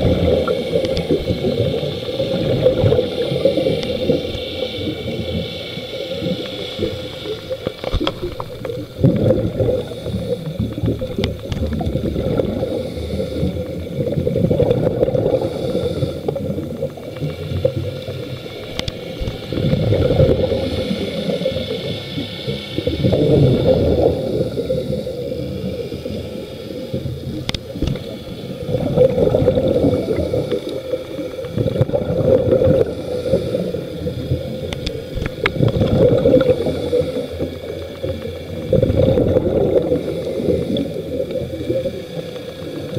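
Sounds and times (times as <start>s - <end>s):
exhaled bubbles gurgling: 0.0s - 42.9s
underwater rumble: 0.0s - 42.9s.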